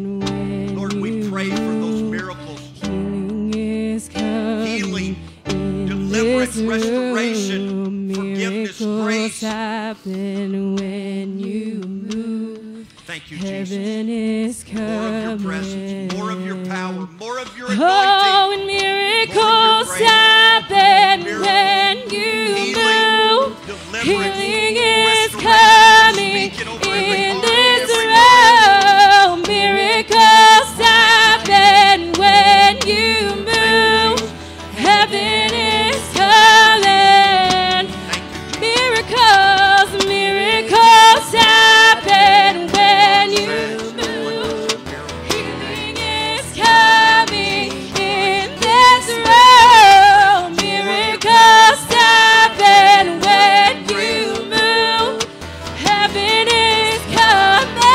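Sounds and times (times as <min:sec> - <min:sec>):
woman singing with vibrato: 0:00.0 - 0:00.8, 0:02.8 - 0:04.7, 0:05.5 - 0:16.6, 0:17.7 - 0:57.9
acoustic guitars: 0:00.0 - 0:57.9
keyboard: 0:00.0 - 0:57.9
live band playing: 0:00.2 - 0:09.6, 0:14.6 - 0:16.8, 0:17.5 - 0:57.9.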